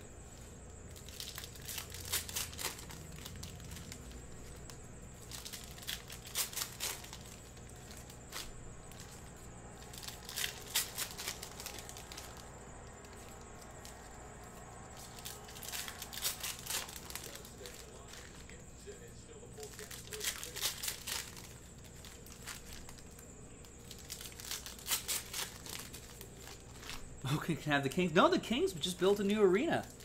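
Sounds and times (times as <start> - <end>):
card pack wrappers crinkling: 0.2 - 30.0.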